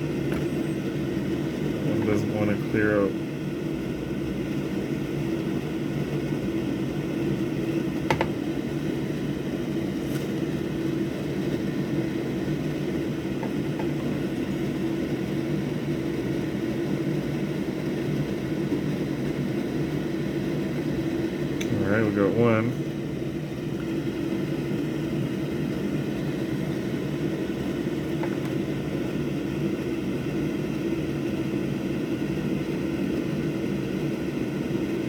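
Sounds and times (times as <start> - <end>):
motor hum: 0.0 - 35.0.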